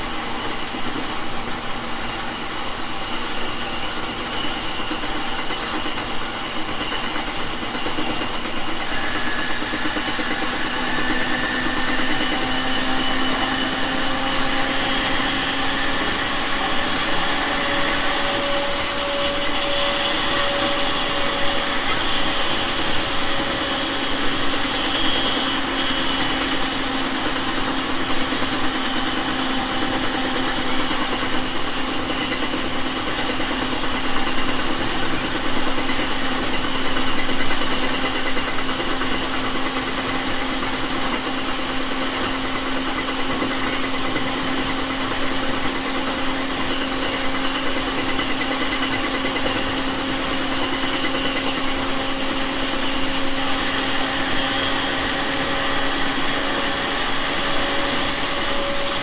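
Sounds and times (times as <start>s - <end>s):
train motor hum and whine: 0.0s - 59.0s
train wheels rumbling on rail: 0.0s - 59.0s.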